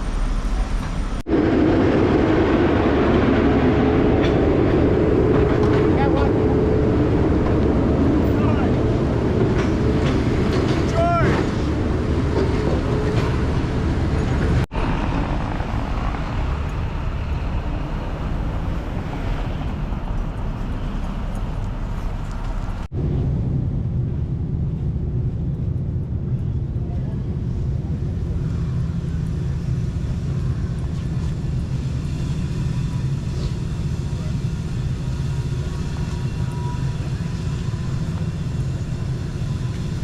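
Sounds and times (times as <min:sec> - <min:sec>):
city street traffic rumble: 0:00.0 - 0:40.0.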